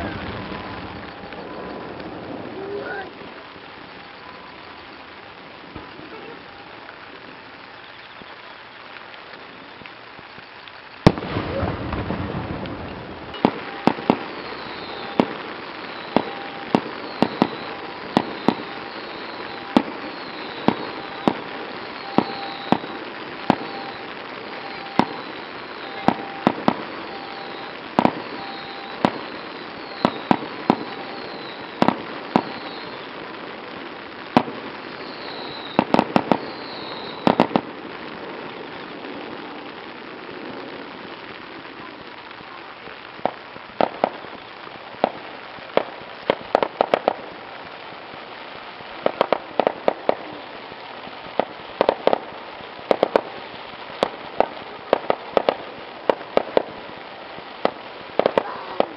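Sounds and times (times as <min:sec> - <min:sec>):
sharp firework cracks: 0:00.0 - 0:58.9.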